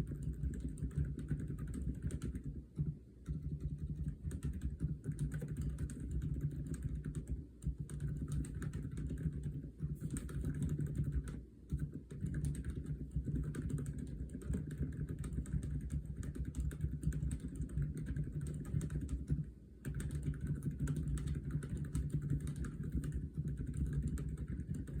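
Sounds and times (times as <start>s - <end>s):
fast typing on mechanical keyboard: 0.0s - 25.0s.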